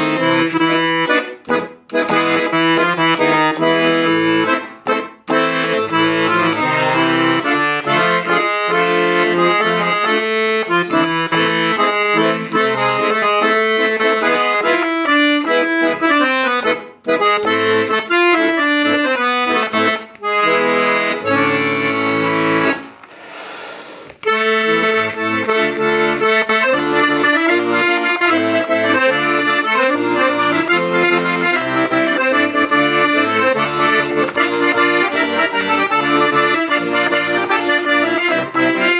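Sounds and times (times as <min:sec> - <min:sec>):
accordion playing: 0:00.0 - 0:38.9.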